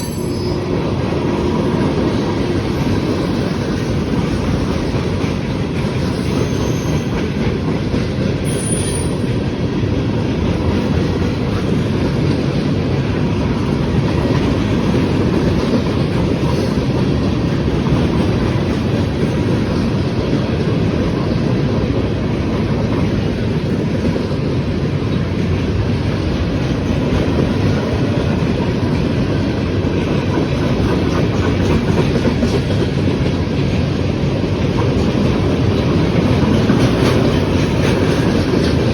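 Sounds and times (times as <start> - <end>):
train wheels rolling on rails: 0.0 - 38.9.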